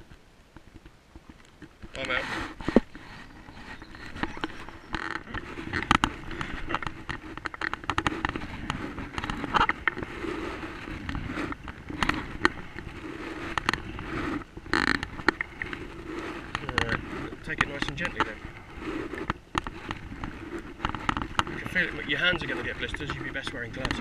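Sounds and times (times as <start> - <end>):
sharp crackling knocks: 0.0 - 24.0.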